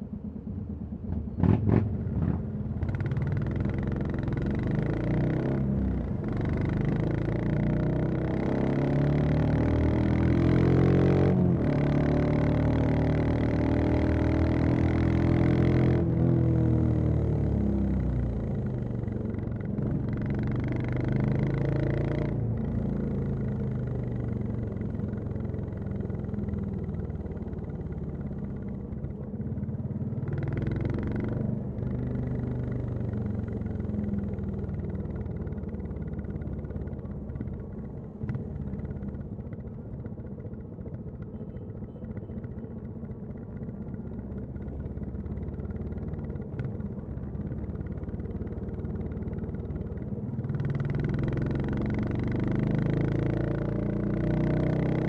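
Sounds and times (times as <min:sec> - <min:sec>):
motorcycle engine and exhaust running: 0:00.0 - 0:55.0.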